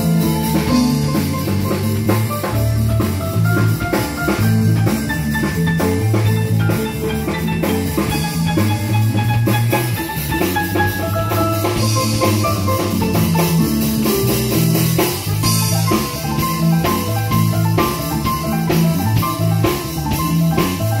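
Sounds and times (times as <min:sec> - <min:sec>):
drum kit beat: 0:00.0 - 0:21.0
keyboard playing: 0:00.0 - 0:21.0
low bass notes: 0:00.0 - 0:21.0.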